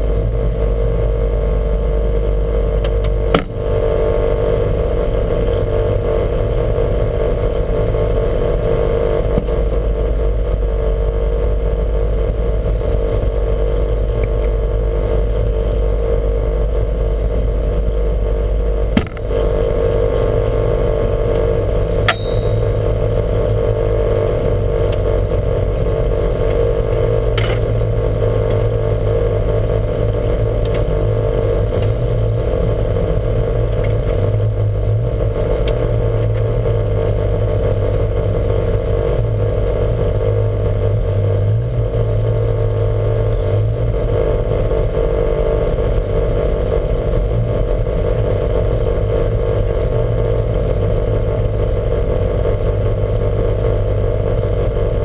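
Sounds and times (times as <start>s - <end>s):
car engine running steadily: 0.0s - 55.0s.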